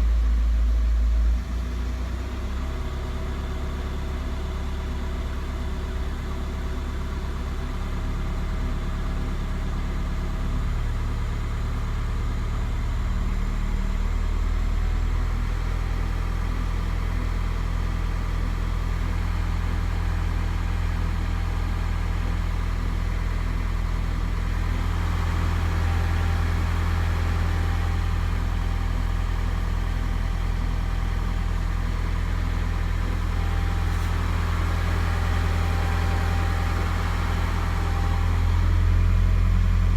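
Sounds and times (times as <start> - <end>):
diesel engine idling: 0.1 - 39.9.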